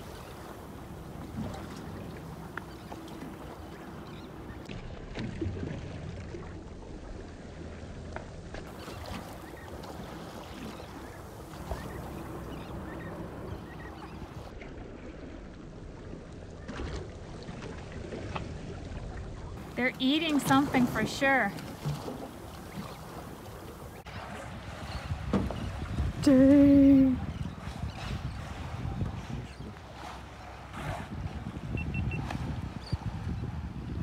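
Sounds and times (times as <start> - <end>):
water lapping against boat hull: 0.0 - 34.0.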